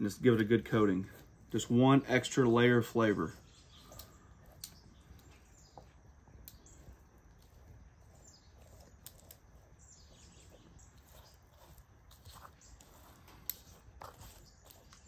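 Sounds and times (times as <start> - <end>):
faint bird chirps: 2.6 - 15.0.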